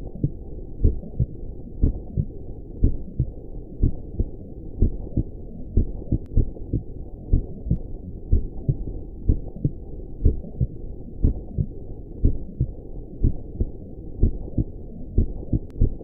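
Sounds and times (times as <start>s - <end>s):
heartbeat: 0.0s - 16.0s
steady low rumble: 0.0s - 16.0s.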